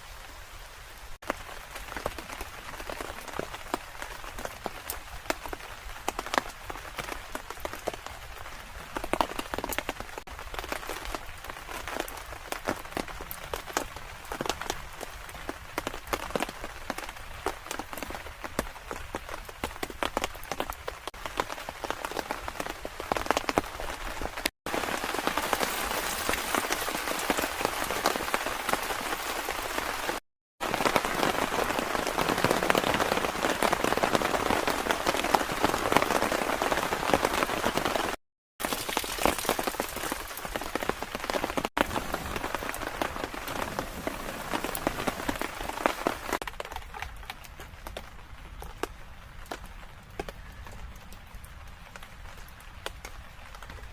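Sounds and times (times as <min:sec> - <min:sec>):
rain drops ticking on a surface: 0:00.0 - 0:53.9.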